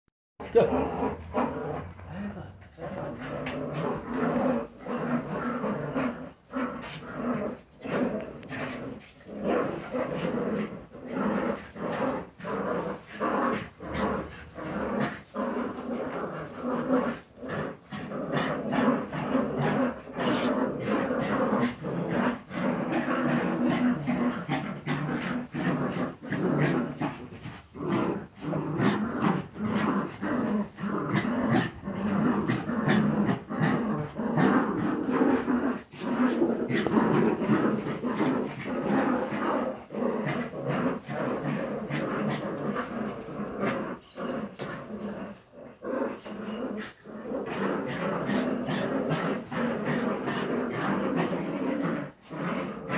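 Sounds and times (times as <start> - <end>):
puppies growling in play: 0.4 - 52.9.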